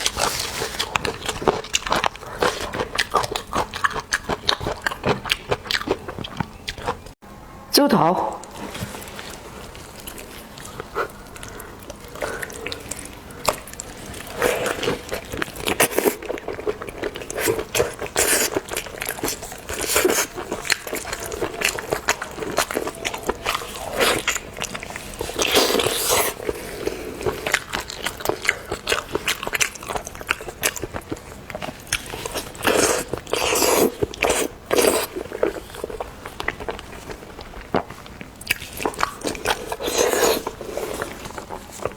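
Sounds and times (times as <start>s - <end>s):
chewing seafood with wet crunches: 0.0s - 7.2s, 8.4s - 41.9s.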